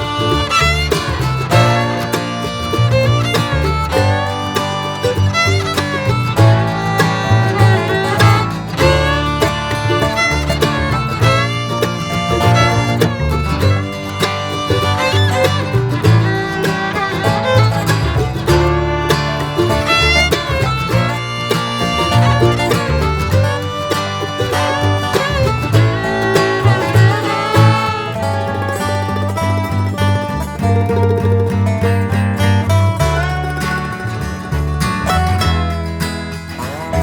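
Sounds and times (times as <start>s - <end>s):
upbeat bluegrass music: 0.0s - 37.0s.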